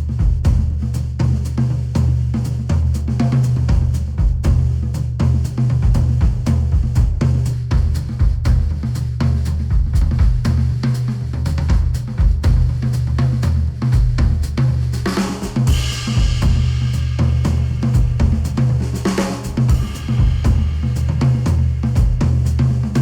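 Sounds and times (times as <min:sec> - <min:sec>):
music with drums and heavy bass: 0:00.0 - 0:23.0.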